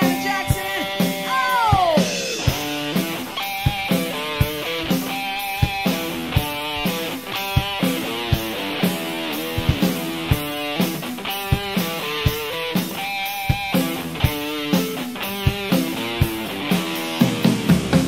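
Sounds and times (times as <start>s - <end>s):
drum beat: 0.0s - 18.0s
electric guitar riff: 0.0s - 18.0s.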